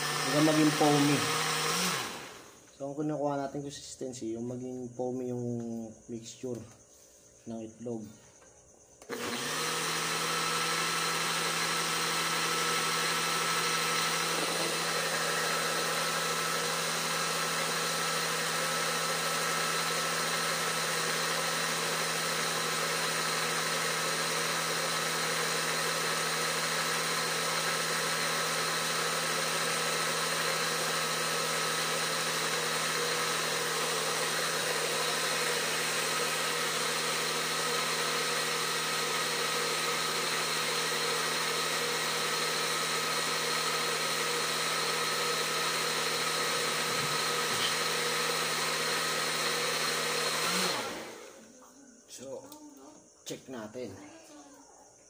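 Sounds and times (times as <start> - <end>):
blender motor humming: 0.0 - 3.1, 9.0 - 51.5.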